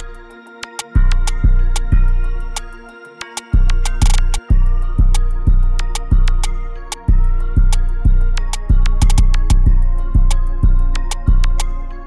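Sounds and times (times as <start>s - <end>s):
ticking hi-hats: 0.0s - 12.0s.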